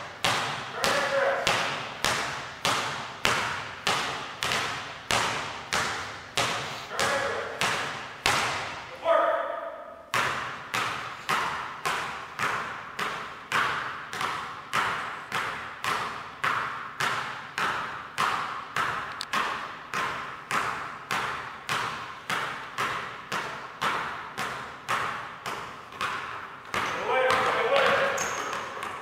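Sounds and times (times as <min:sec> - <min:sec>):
basketballs bouncing on wooden floor: 0:00.0 - 0:09.0, 0:09.7 - 0:29.0.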